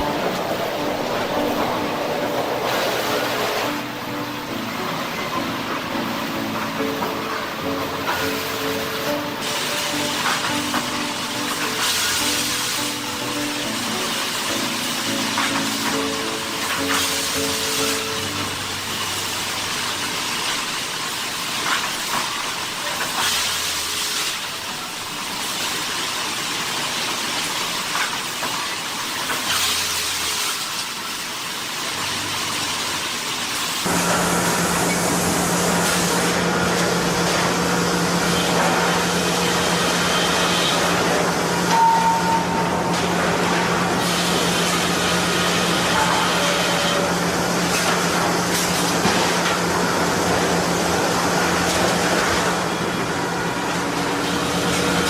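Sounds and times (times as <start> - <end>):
sawmill machinery hiss and clatter: 0.0 - 55.0.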